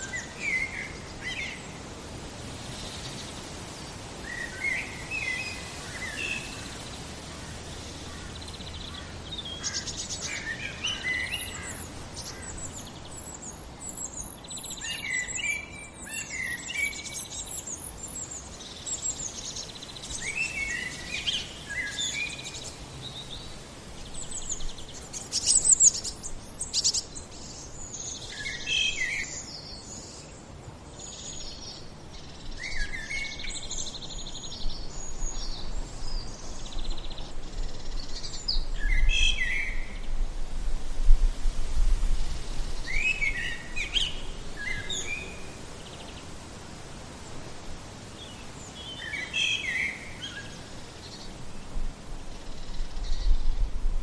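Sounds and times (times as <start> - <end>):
songbirds chirping: 0.0 - 40.4, 42.2 - 53.8.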